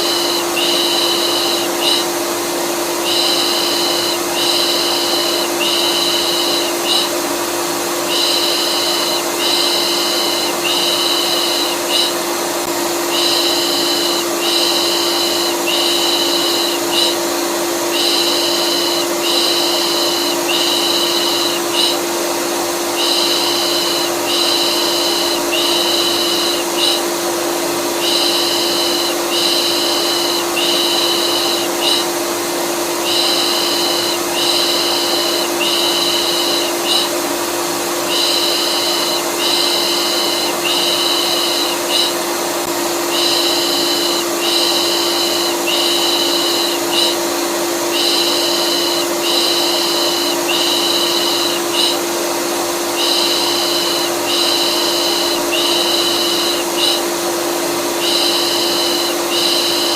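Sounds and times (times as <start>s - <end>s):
vacuum cleaner humming: 0.0s - 59.9s.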